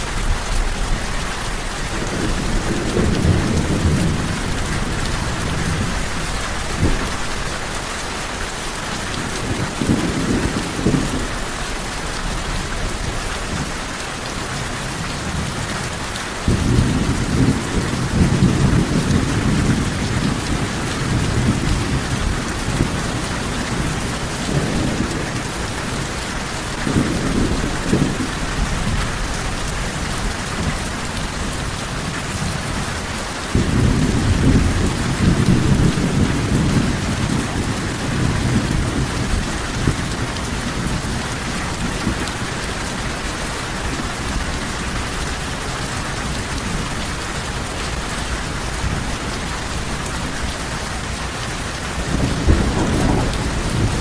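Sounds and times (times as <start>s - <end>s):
thunder rumbling: 0.0s - 7.7s, 9.0s - 11.9s, 16.4s - 45.0s, 45.8s - 54.0s
heavy rain: 0.0s - 54.0s.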